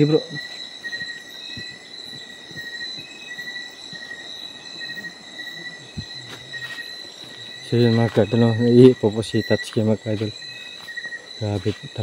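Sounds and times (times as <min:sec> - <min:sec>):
insects trilling: 0:00.0 - 0:12.0
lower insect chirping: 0:00.0 - 0:12.0.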